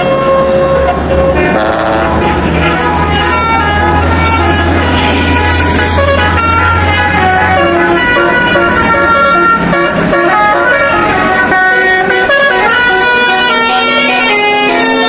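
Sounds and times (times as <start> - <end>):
low engine hum: 0.0 - 15.0
musical bus air horn: 0.0 - 15.0.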